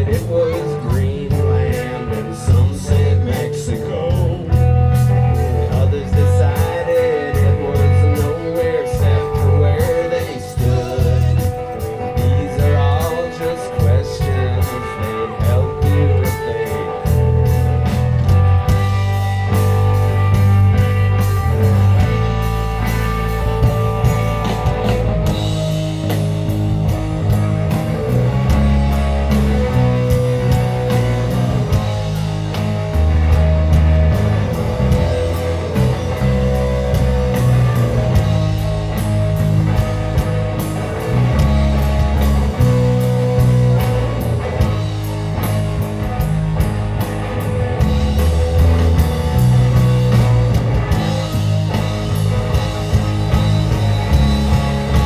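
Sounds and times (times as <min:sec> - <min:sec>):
drum kit: 0:00.0 - 0:55.0
electric bass: 0:00.0 - 0:55.0
electric guitar: 0:00.0 - 0:55.0.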